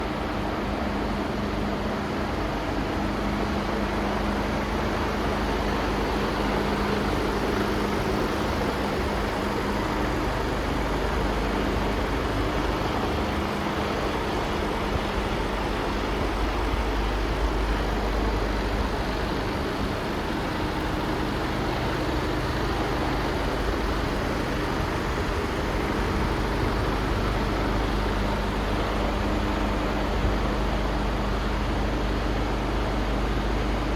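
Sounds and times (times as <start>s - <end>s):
diesel truck engine idling: 1.6s - 33.8s.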